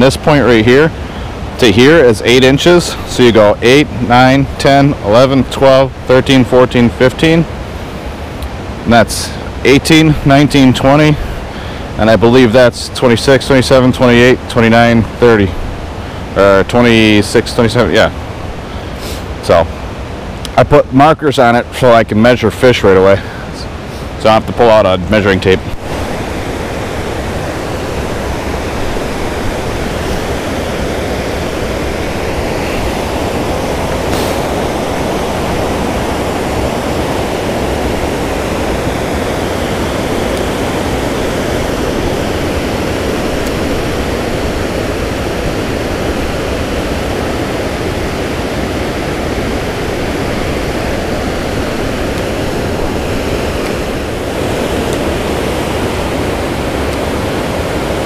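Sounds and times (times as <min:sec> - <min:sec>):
water rushing over spillway: 0:00.0 - 0:58.0.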